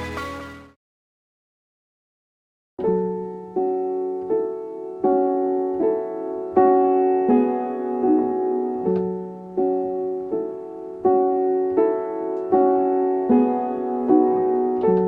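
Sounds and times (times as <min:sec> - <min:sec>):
electric piano chords: 0:02.8 - 0:15.0.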